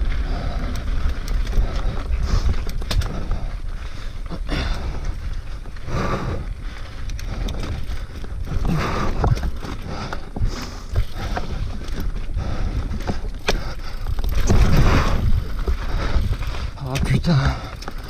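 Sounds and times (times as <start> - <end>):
bike rattling and knocking: 0.0 - 18.0
tyres rumbling on dirt and rock: 0.0 - 18.0
wind buffeting microphone: 0.0 - 18.0.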